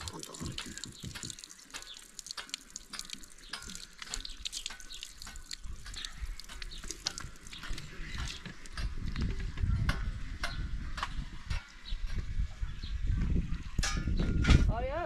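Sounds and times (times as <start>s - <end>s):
water splashing and dripping: 0.0s - 12.3s.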